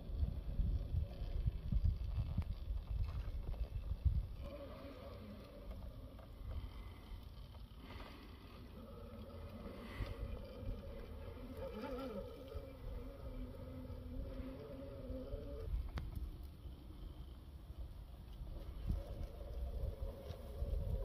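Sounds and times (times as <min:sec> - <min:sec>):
wind rumble on microphone: 0:00.0 - 0:08.0, 0:08.6 - 0:21.0
rc car motor whining: 0:00.0 - 0:21.0.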